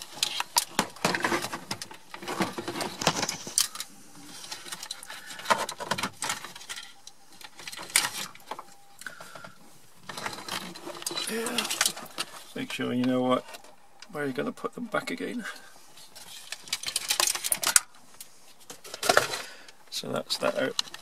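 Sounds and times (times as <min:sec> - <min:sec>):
plastic panels clicking and rattling: 0:00.0 - 0:13.8, 0:16.0 - 0:17.9, 0:18.6 - 0:19.5, 0:20.3 - 0:21.0.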